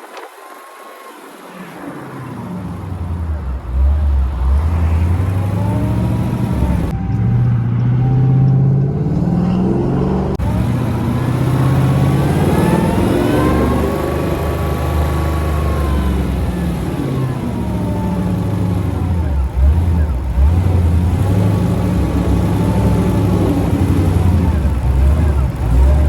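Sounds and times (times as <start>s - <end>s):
car engine revving: 0.0s - 26.0s
supercharger whine: 0.0s - 26.0s.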